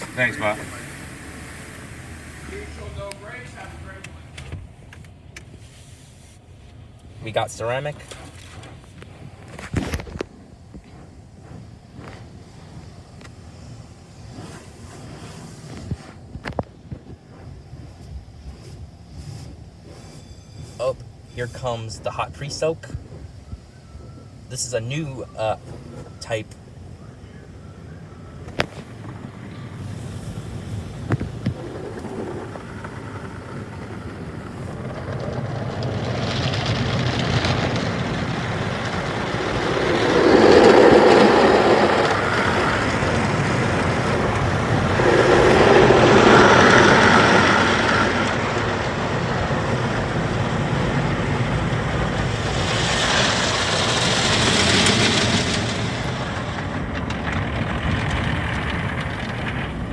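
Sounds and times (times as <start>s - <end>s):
spraying water: 0.0s - 5.0s, 5.6s - 57.2s
car wash machinery running: 0.0s - 59.9s.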